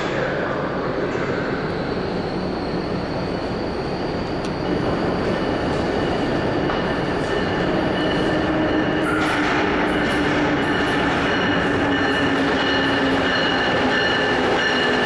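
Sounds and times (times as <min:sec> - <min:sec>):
train wheels rumbling on rail: 0:02.3 - 0:15.0.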